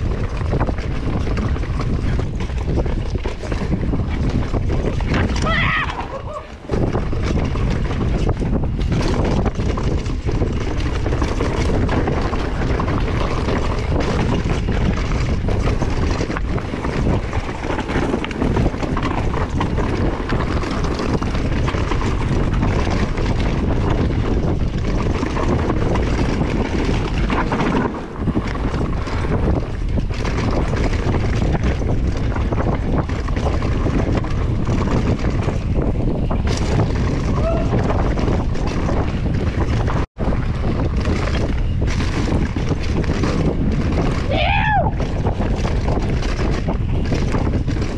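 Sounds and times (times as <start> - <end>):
bike knocks and rattles: 0.0 - 47.9
bike tyres rolling over dirt: 0.0 - 47.9
wind buffeting microphone: 0.0 - 47.9.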